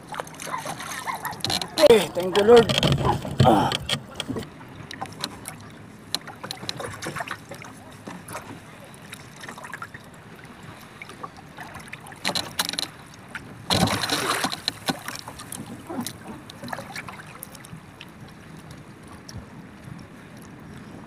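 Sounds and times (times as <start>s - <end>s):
water lapping around canoe: 0.0s - 21.0s.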